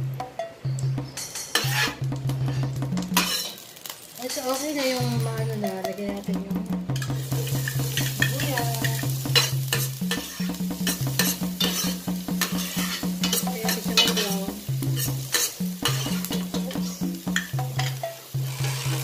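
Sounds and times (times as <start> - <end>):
background music with bass line: 0.0 - 3.3, 5.1 - 19.0
onions sizzling in oil: 0.0 - 19.0
stirring scrapes against pan: 1.2 - 5.2, 7.0 - 16.6, 17.3 - 19.0.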